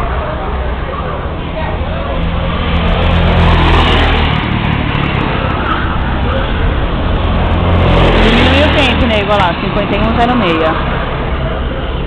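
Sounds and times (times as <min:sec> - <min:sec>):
go-kart engines running: 0:00.0 - 0:12.0.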